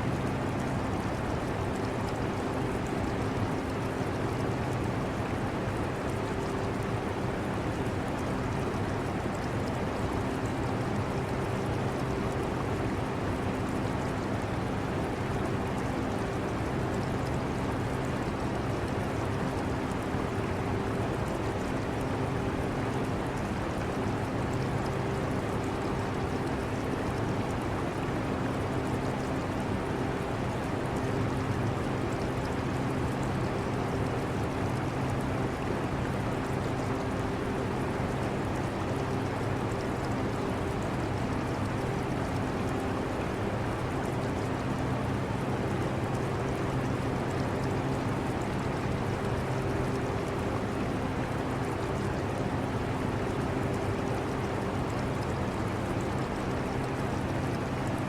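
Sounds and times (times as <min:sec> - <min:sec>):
aquarium filter water bubbling: 0:00.1 - 0:58.0.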